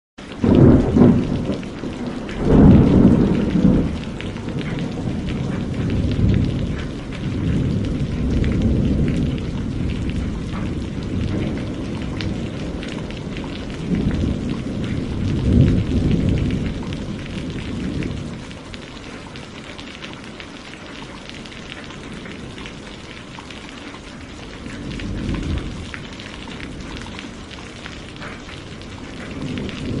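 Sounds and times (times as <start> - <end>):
rain falling: 0.2 - 30.0
rolling thunder: 0.3 - 19.3, 24.2 - 30.0.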